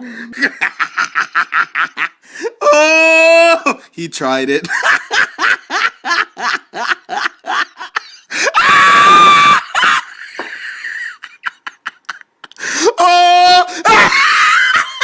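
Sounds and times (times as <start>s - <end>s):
person laughing hysterically: 0.2s - 3.8s, 4.6s - 15.0s.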